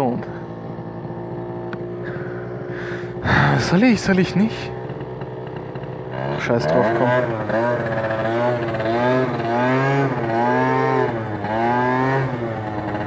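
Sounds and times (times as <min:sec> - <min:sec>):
scooter engine revving: 0:00.0 - 0:13.0.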